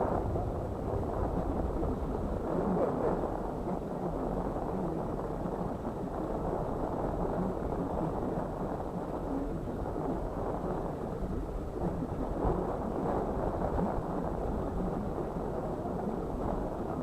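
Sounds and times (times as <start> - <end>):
low rumbling and rushing noise: 0.0 - 17.0.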